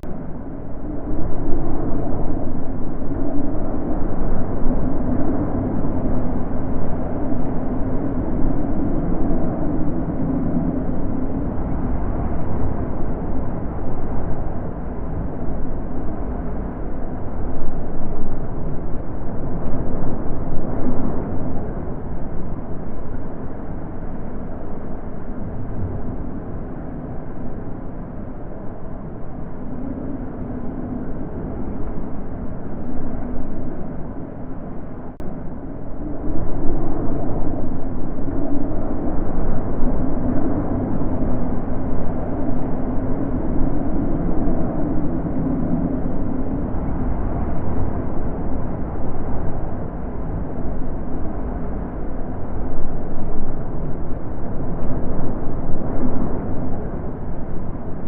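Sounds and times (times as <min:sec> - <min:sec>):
wind blowing in gusts: 0:00.0 - 0:58.0.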